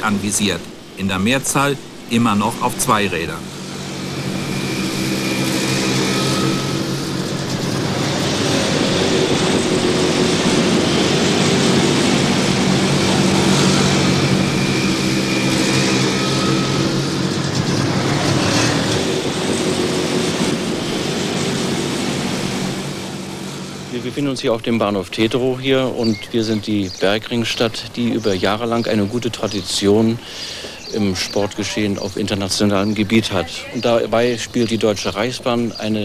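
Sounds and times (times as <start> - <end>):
motorcycle engines droning: 0.0 - 36.0.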